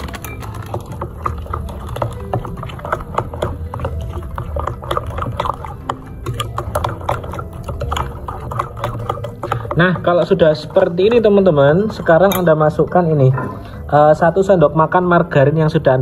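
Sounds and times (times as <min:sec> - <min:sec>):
spoon scraping glass bowl: 0:00.0 - 0:13.9
batter squelching: 0:00.0 - 0:14.4.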